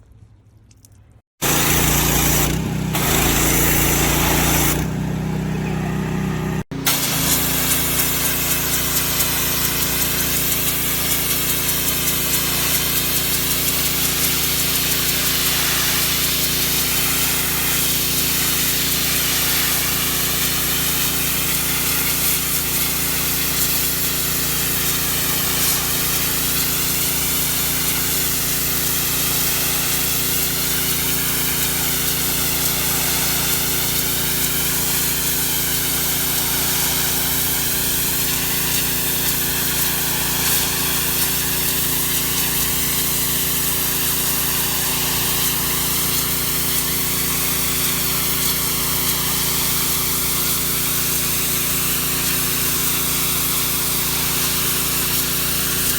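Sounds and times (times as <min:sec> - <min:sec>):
pressure washer spraying: 0:01.4 - 0:55.9.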